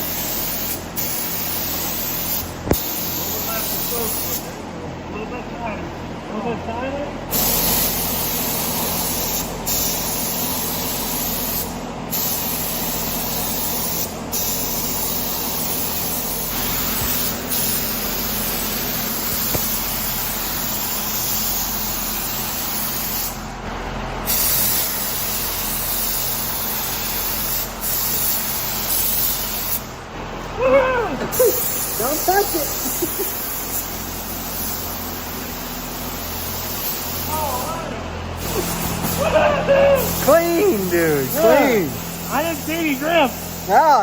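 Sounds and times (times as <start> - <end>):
paint spray gun hissing: 0.0 - 4.5, 7.3 - 23.4, 24.3 - 29.9, 31.3 - 37.8, 38.4 - 44.0.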